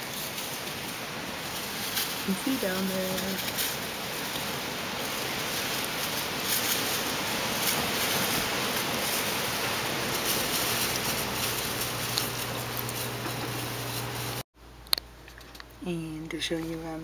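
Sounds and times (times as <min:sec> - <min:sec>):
strong wind gusting: 0:00.0 - 0:14.4
low steady hum: 0:00.0 - 0:17.0.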